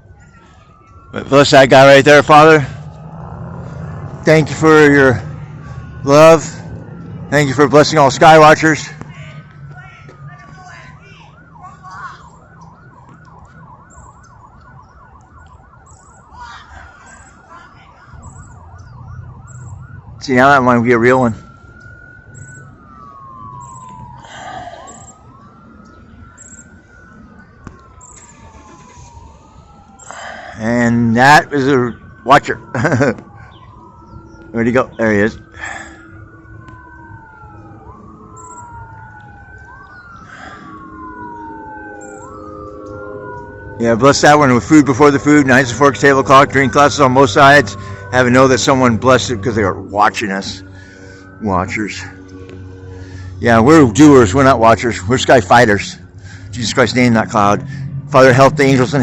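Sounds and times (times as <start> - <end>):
siren yelping: 0.0 - 59.0.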